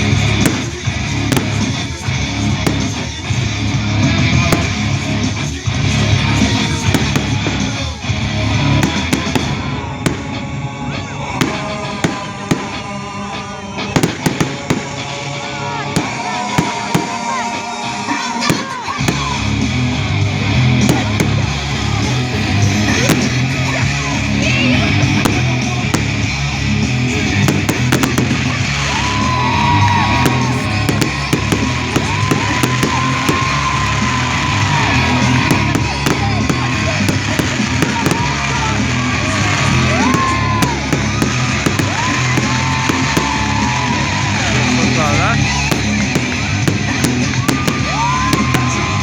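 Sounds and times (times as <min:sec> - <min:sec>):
loud music with steady beat: 0:00.0 - 0:10.5, 0:11.4 - 0:13.2, 0:13.9 - 0:49.0
fireworks bangs and crackles: 0:00.0 - 0:49.0.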